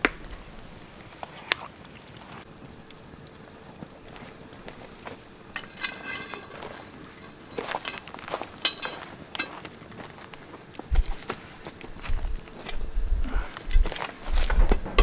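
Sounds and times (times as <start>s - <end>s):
campfire crackle: 0.0s - 15.0s.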